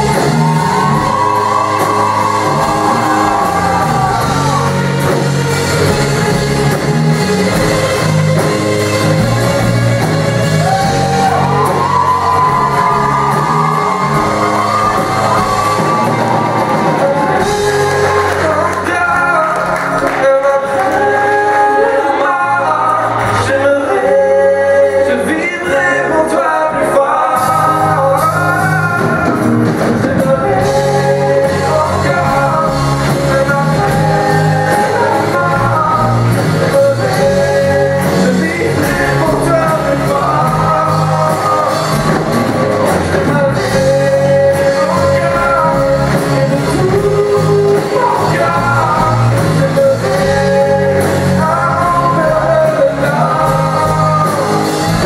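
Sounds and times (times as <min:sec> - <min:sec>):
drums: 0:00.0 - 0:55.0
group singing pop song: 0:00.0 - 0:55.0
guitar: 0:00.0 - 0:55.0
piano: 0:00.0 - 0:55.0.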